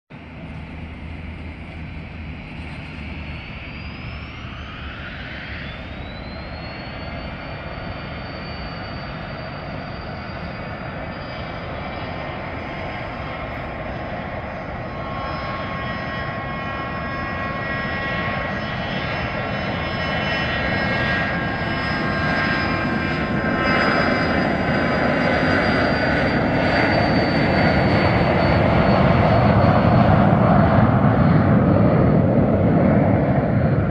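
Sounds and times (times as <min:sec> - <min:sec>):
jet engines spooling up: 0:00.2 - 0:33.9.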